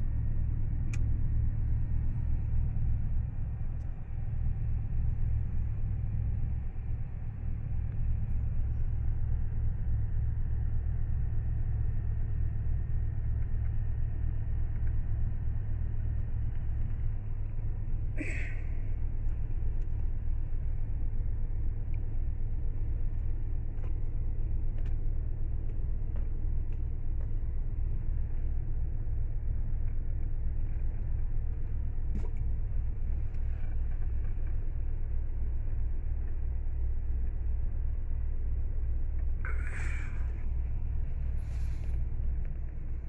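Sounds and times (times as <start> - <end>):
engine idling low rumble: 0.0 - 43.0.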